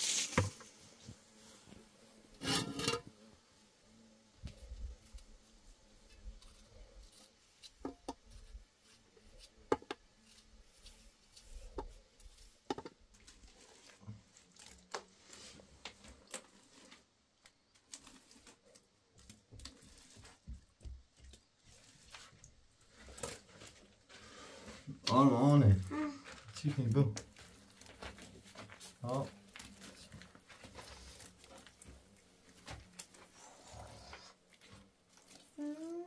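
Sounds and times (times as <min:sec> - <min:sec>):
soft rustles of handling: 0:04.4 - 0:36.0.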